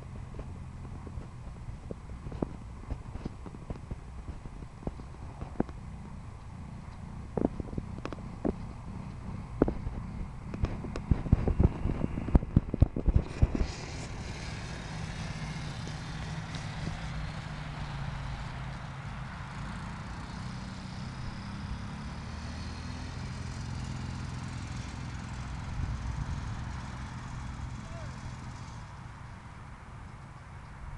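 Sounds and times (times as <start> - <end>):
quad bike engine humming: 0.0 - 30.9.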